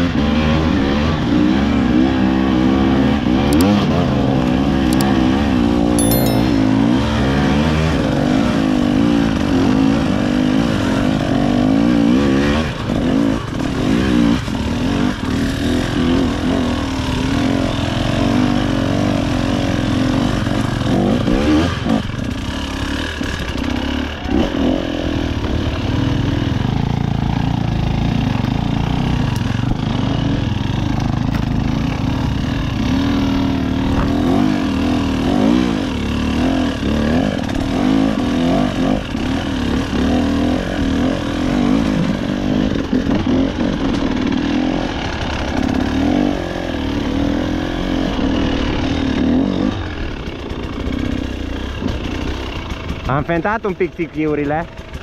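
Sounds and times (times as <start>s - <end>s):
dirt bike engine revving: 8.6s - 53.1s.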